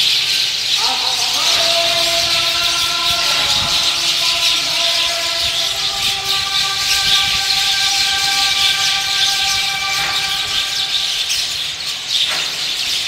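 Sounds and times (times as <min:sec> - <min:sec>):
flock of birds chirping: 0:00.0 - 0:13.0
steady droning tone: 0:01.4 - 0:12.0.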